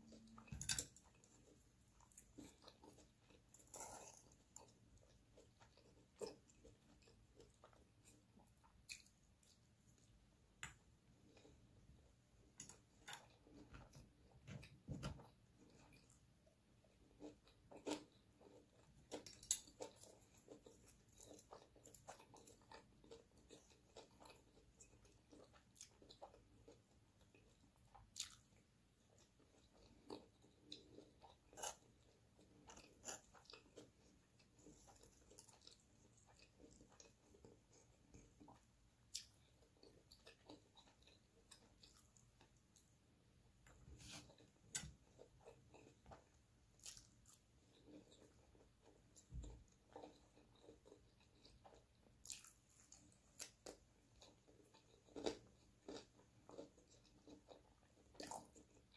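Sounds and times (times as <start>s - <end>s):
soft chewing and mouth sounds: 0.0s - 58.9s.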